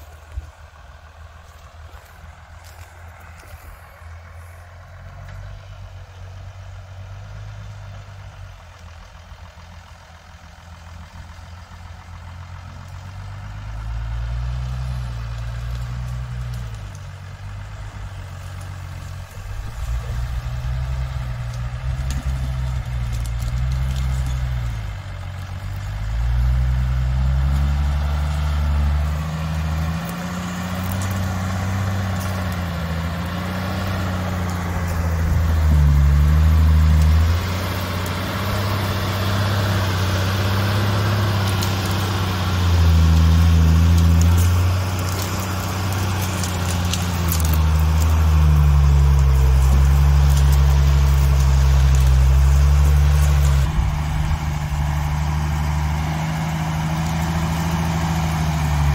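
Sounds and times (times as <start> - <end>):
truck engine labouring: 0.0 - 58.9.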